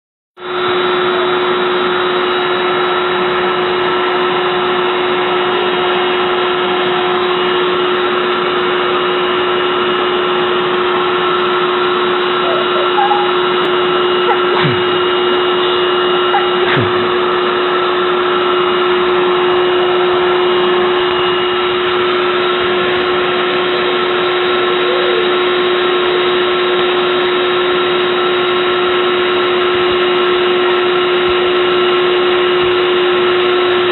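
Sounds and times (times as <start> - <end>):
vacuum cleaner motor whine: 0.4 - 33.9.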